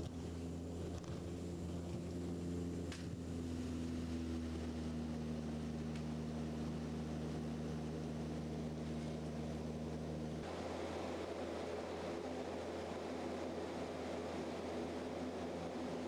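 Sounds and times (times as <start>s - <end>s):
propeller engine drone in cabin: 0.0s - 16.0s.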